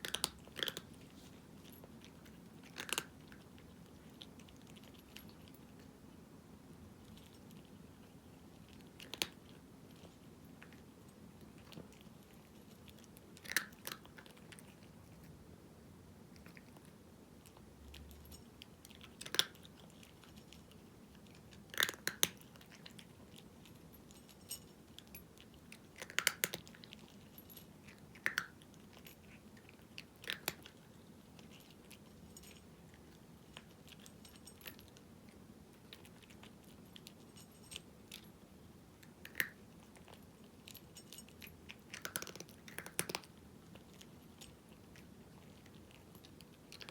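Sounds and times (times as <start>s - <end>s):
cat crunching dry kibble: 0.0s - 6.0s, 6.9s - 15.4s, 16.3s - 38.4s, 39.0s - 46.9s.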